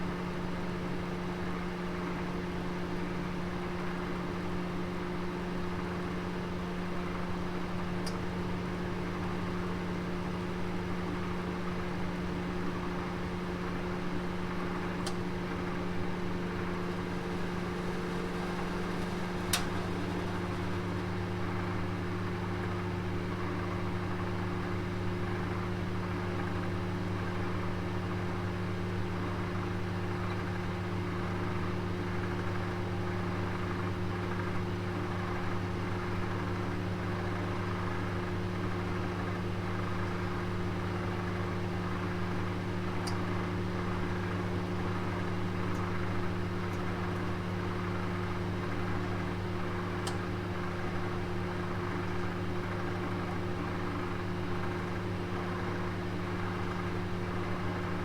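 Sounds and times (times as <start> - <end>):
oven humming: 4.4 - 33.1, 39.8 - 58.0.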